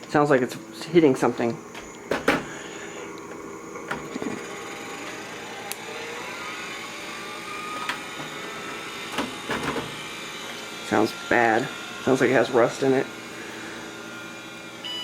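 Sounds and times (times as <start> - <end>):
hard drive whirring: 0.0 - 15.0.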